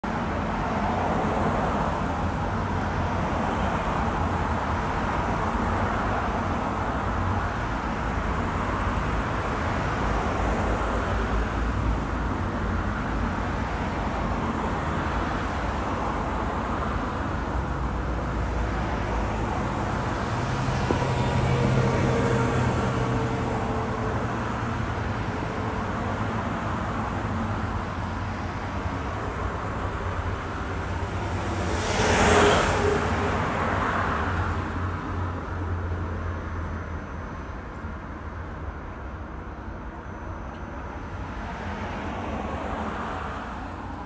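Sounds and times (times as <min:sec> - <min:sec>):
road traffic passing: 0:00.0 - 0:44.0.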